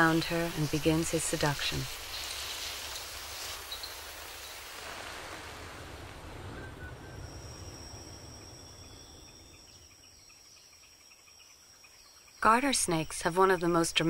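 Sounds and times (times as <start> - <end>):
soft hiss: 0.0 - 13.9
insects trilling: 0.0 - 14.0.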